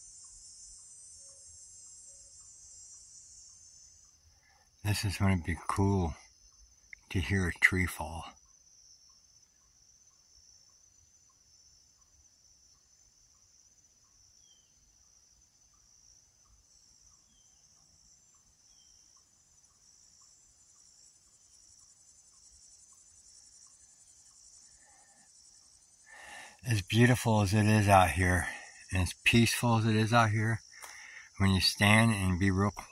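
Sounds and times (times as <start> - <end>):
crickets and insects chirring: 0.0 - 32.9.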